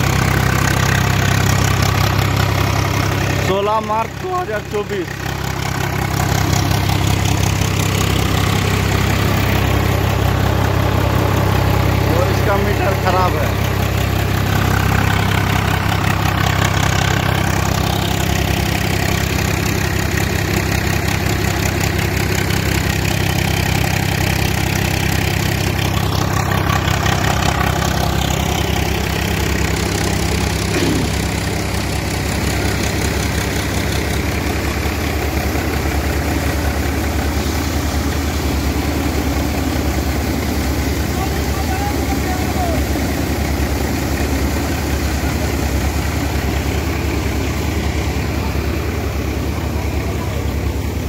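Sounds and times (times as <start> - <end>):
tractor diesel engine and thresher hum: 0.0 - 51.0.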